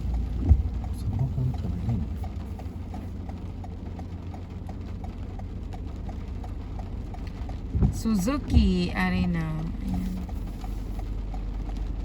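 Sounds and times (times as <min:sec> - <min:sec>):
road rumble inside car: 0:00.0 - 0:12.0
turn signal ticking: 0:00.0 - 0:12.0.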